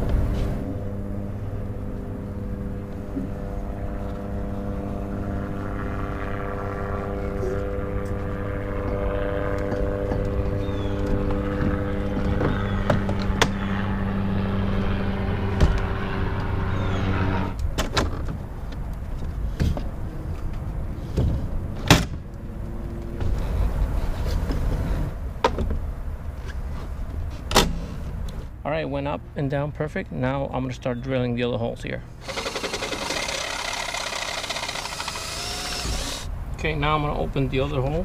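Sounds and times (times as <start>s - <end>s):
low motor hum: 0.0s - 26.4s, 32.0s - 36.7s.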